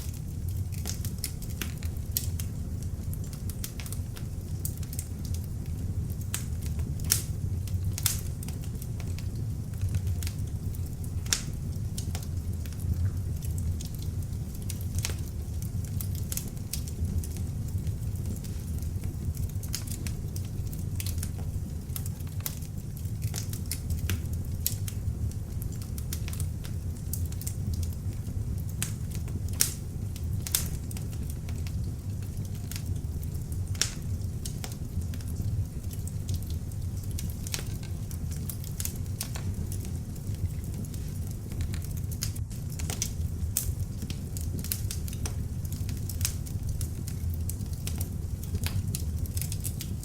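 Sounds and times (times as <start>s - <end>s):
log fire crackling: 0.0s - 50.0s.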